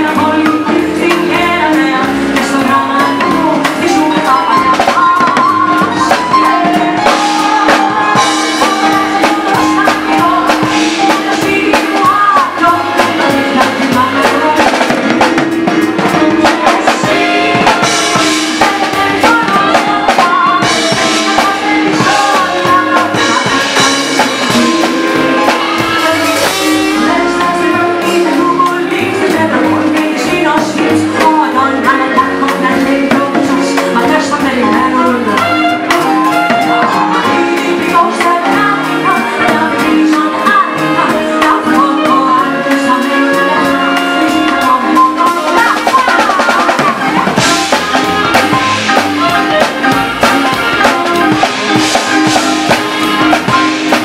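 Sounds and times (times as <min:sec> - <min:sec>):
drum kit beat: 0:00.0 - 0:54.0
live band playing bossa nova: 0:00.0 - 0:54.0
saxophone: 0:00.0 - 0:54.0
woman singing: 0:00.0 - 0:54.0.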